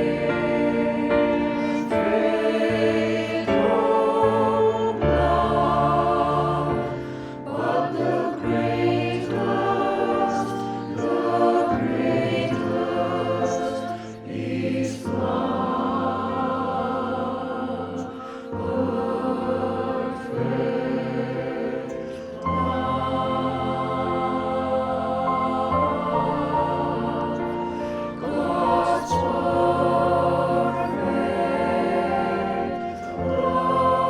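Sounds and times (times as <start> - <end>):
choir singing: 0.0 - 34.0.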